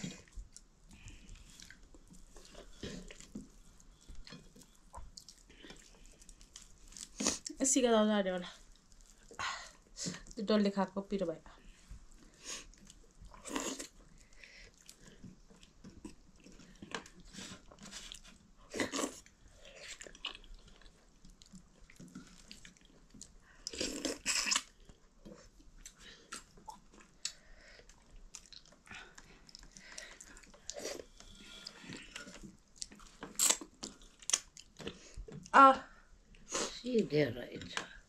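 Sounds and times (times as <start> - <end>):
wet chewing and lip smacks: 0.1 - 7.6, 12.1 - 35.5.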